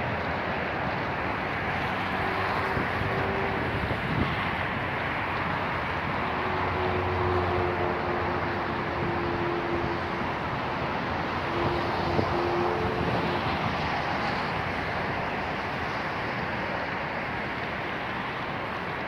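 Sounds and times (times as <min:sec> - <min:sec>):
distant city traffic: 0:00.0 - 0:19.0.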